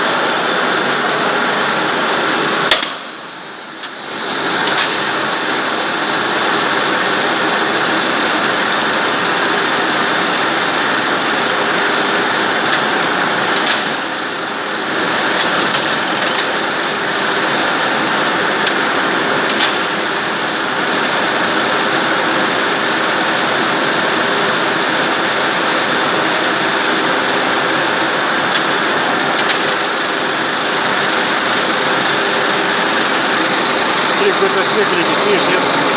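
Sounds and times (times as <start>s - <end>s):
lathe running: 0.0s - 35.9s.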